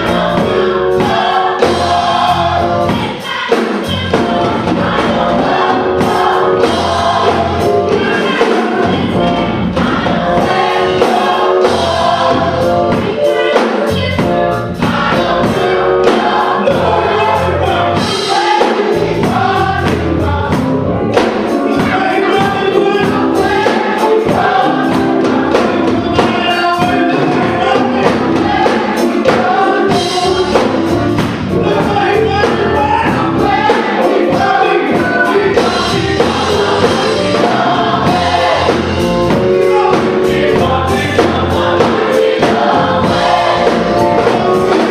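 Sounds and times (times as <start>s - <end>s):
drums steady beat: 0.0s - 44.9s
gospel choir singing: 0.0s - 44.9s
live band playing: 0.0s - 44.9s.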